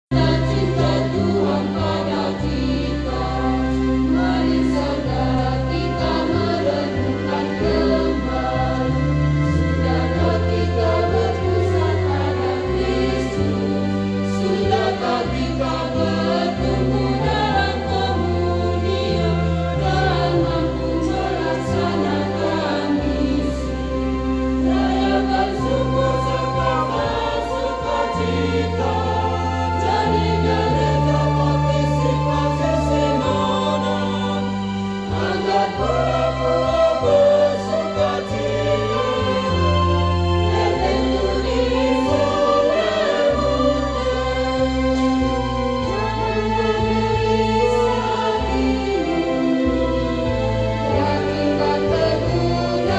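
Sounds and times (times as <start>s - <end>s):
choir singing a hymn: 0.0s - 52.9s
sustained low bass notes: 0.0s - 52.9s.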